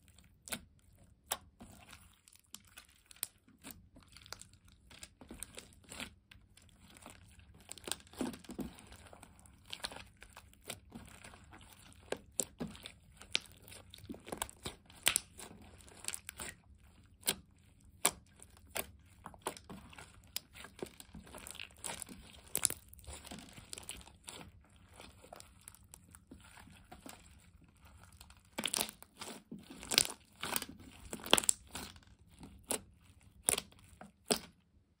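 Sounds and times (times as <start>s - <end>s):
hands squishing sticky slime: 0.0s - 35.0s
slime popping and crackling: 0.3s - 34.6s.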